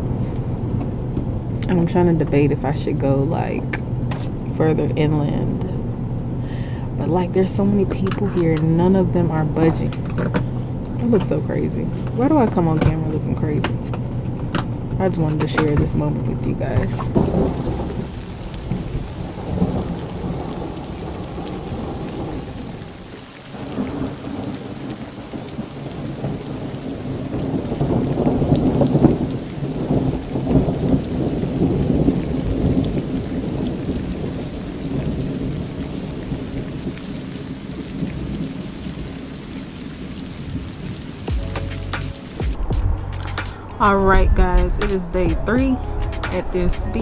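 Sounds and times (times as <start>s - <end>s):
rain falling: 0.0s - 47.0s
thunder rumbling: 0.0s - 47.0s.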